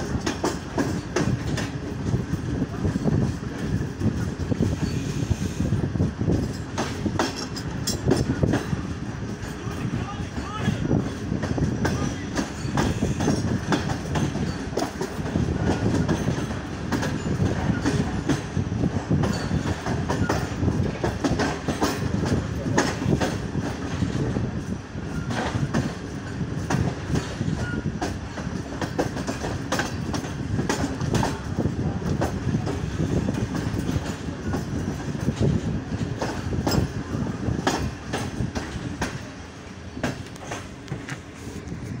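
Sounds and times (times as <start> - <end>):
train wheels rumbling on rails: 0.0 - 42.0
wheels clicking over rail joints: 0.0 - 42.0.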